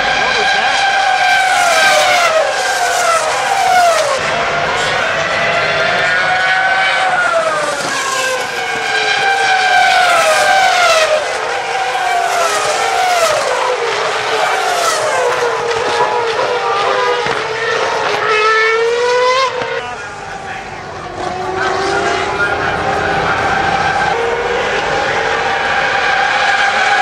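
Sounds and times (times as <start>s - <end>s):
racing cars passing at high revs: 0.0s - 27.0s.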